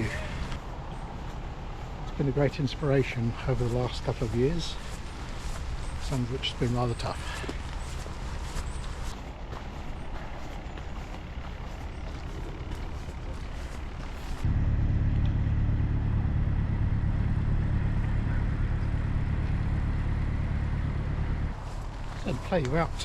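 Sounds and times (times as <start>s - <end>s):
engine rumble with droning hum: 0.0s - 23.0s.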